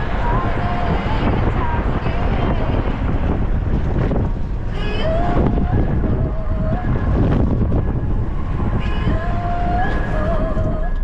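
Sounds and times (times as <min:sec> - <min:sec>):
vehicle engine and road rumble: 0:00.0 - 0:11.0
wind buffeting microphone: 0:00.0 - 0:11.0.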